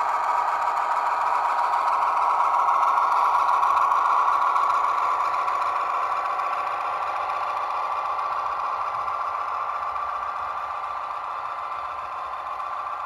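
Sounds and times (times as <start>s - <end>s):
simulated diesel engine from small speaker: 0.0s - 13.0s.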